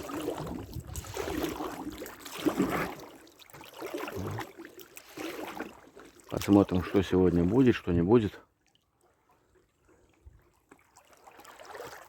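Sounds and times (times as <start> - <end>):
water splashing around a boat: 0.0 - 12.0.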